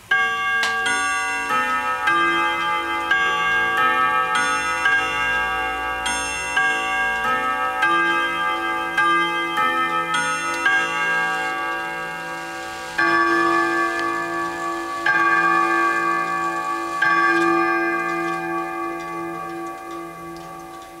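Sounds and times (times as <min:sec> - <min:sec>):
clock striking: 0:00.0 - 0:21.0
clock ticking: 0:00.1 - 0:21.0.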